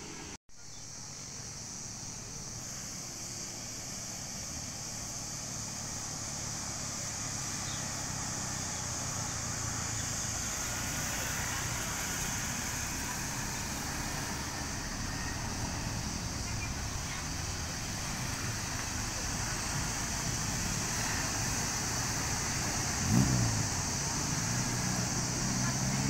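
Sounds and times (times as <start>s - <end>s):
car engines passing: 0.0s - 0.4s, 1.2s - 26.0s
high insect drone: 0.6s - 26.0s
motor scooter engine: 2.2s - 26.0s.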